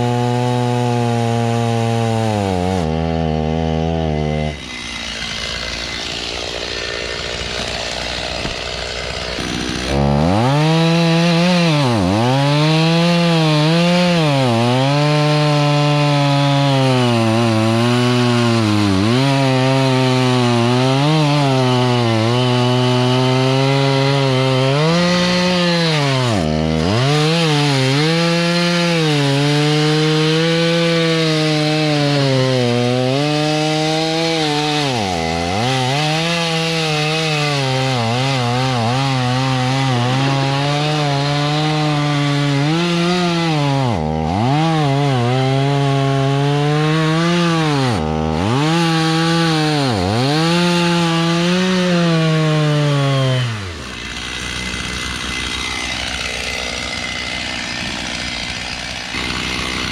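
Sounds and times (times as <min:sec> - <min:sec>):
stump grinder cutting a stump: 0:00.0 - 0:59.9.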